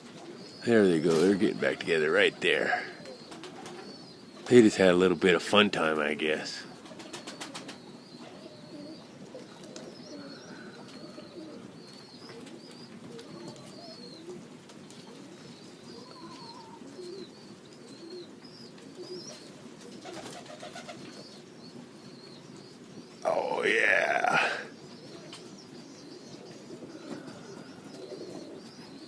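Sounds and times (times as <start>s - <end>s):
pigeons cooing: 0.0s - 29.0s
small birds chirping: 0.0s - 29.0s.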